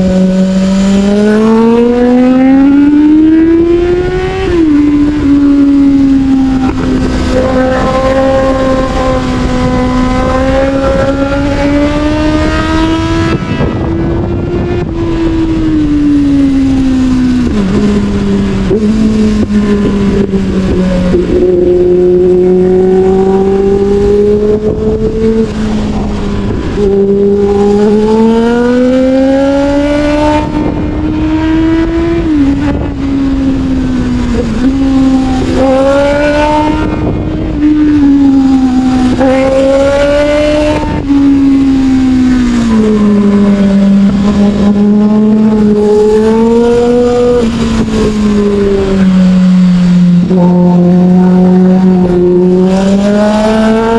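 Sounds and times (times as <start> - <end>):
motorcycle engine revving: 0.0 - 53.9
wind on microphone: 0.0 - 53.9.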